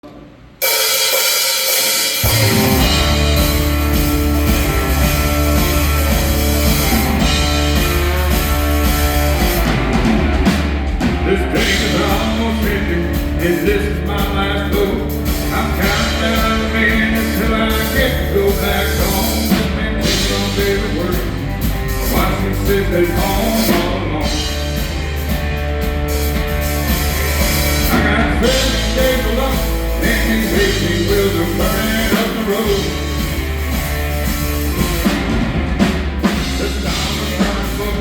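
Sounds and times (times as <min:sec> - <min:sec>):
band playing country rock: 0:00.6 - 0:38.0.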